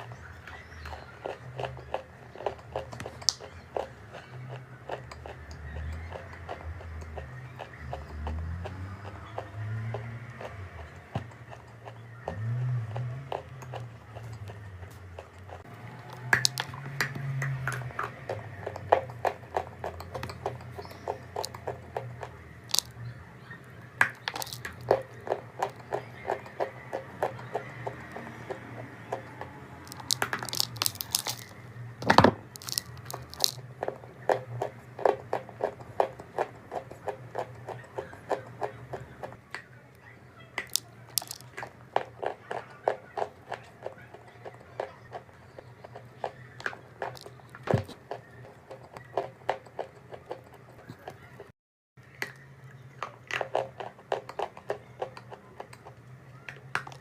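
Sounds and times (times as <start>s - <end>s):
crunchy chewing: 0.0s - 31.8s, 32.5s - 39.5s, 40.5s - 51.5s.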